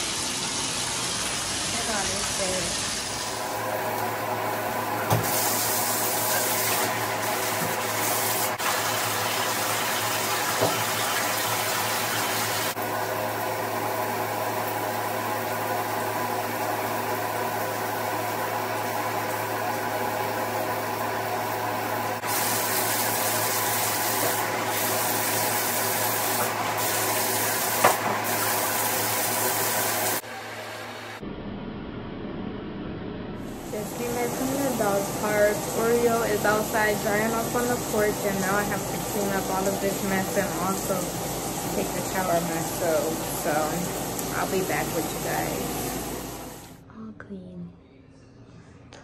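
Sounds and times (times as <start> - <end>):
shower water running: 0.0 - 31.2, 33.5 - 46.8.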